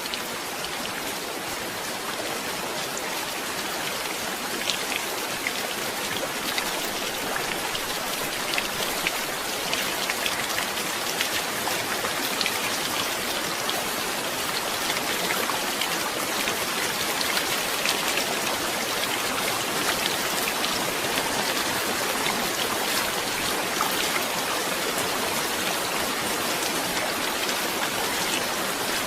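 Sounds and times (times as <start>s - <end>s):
rain hiss: 0.0s - 29.0s
raindrops hitting a surface: 0.0s - 29.0s.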